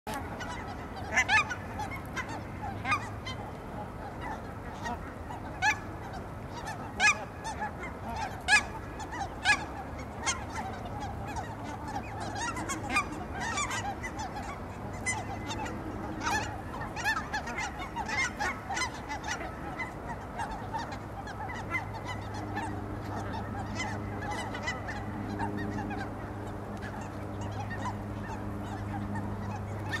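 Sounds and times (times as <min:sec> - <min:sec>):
geese honking: 0:00.1 - 0:30.0
low steady drone: 0:00.1 - 0:30.0
steady low hum: 0:00.1 - 0:30.0.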